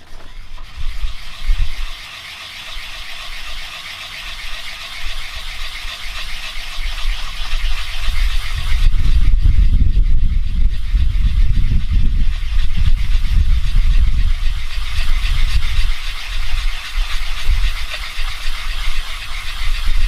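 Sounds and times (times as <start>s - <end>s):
metal rubbed on sandpaper: 0.0s - 20.0s.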